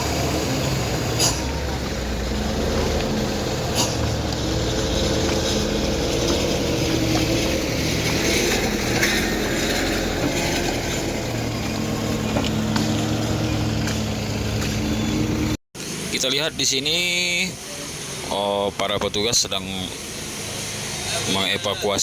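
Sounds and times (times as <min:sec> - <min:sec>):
road traffic drone: 0:00.0 - 0:22.0
vehicle engines running: 0:00.0 - 0:22.0.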